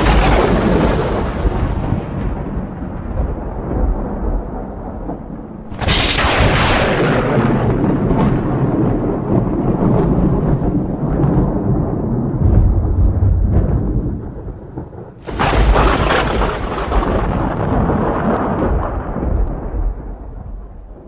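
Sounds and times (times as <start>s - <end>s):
loud thunder crack: 0.0s - 21.0s
thunder rumbling: 0.0s - 21.0s.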